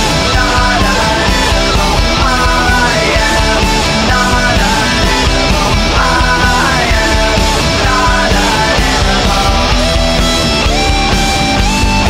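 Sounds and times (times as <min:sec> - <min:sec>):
rock band playing loud: 0:00.0 - 0:12.0.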